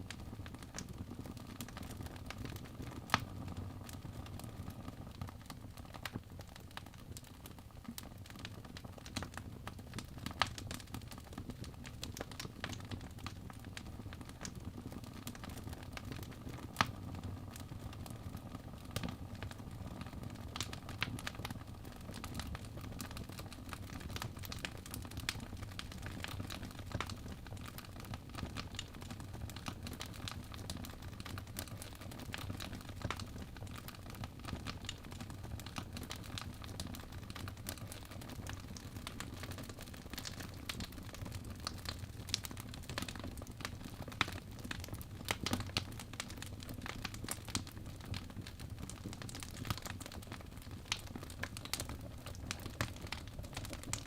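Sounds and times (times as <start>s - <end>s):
wood fire crackling: 0.0s - 54.0s
low rumble of flames: 0.1s - 54.0s.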